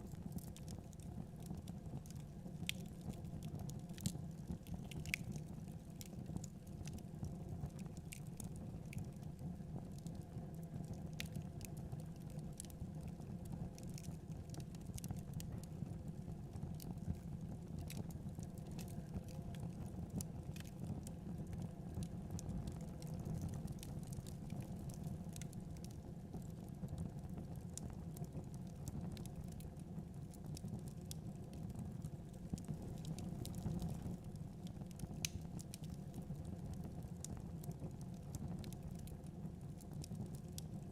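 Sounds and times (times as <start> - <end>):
log fire crackling and popping: 0.0 - 40.9
low rumble of fire: 0.0 - 40.9.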